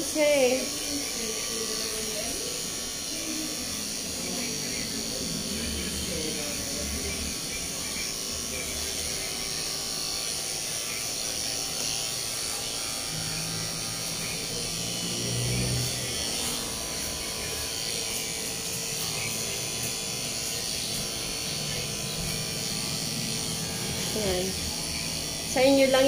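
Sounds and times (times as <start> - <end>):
electric pet clipper humming: 0.0 - 26.0.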